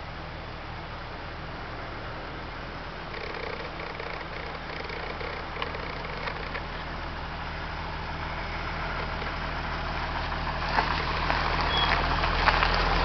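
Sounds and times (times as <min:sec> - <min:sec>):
jeep engine running: 0:00.0 - 0:13.0.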